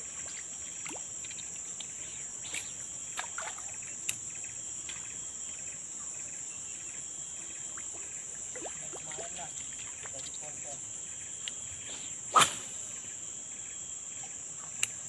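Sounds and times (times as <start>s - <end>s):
insects shrilling drone: 0.0s - 15.0s.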